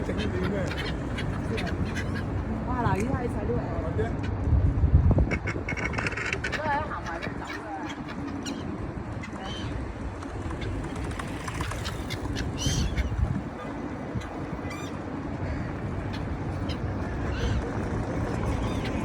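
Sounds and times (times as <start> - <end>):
gulls calling: 0.0 - 4.4, 5.2 - 19.0
low background rumble: 0.0 - 19.0.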